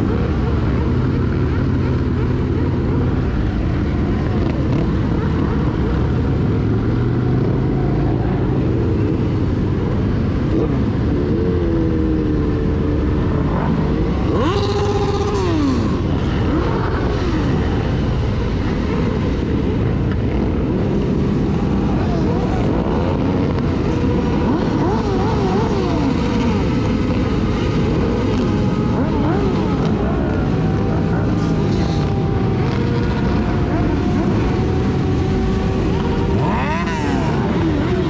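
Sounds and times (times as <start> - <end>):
motorcycle engine rumble: 0.0 - 38.0
motorcycles revving: 0.0 - 38.0.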